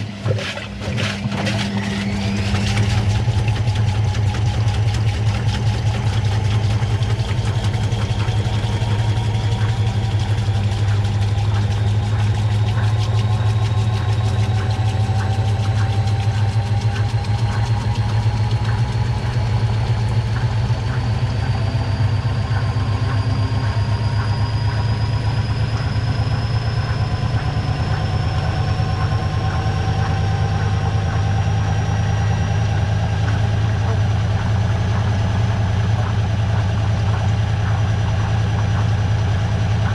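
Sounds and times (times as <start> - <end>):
low hum: 0.0 - 39.9
washing machine drum spinning: 0.0 - 39.9.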